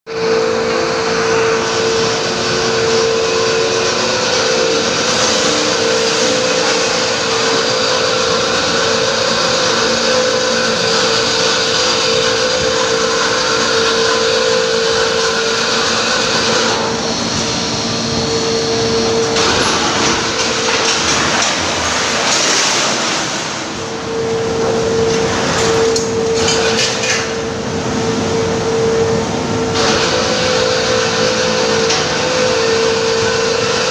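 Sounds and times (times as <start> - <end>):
high hum: 0.1 - 33.9
industrial machinery noise: 0.1 - 33.9.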